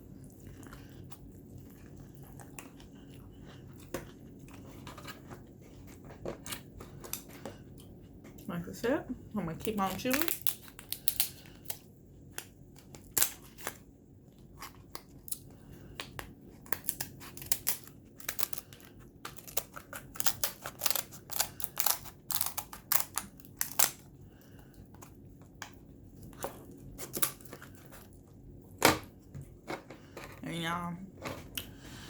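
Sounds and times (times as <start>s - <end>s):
person chewing seafood: 0.0s - 8.4s, 10.4s - 28.6s.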